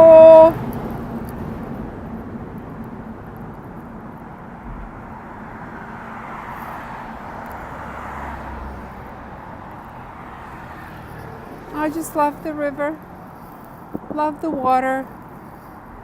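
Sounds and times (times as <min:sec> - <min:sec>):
road traffic noise: 0:00.0 - 0:16.0
vehicle passing by: 0:00.0 - 0:16.0.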